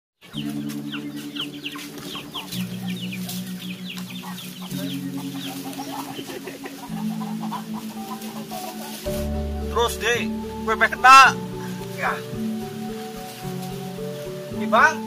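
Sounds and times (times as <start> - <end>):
chickens peeping and clucking: 0.2 - 15.0
steady low tones: 0.3 - 15.0.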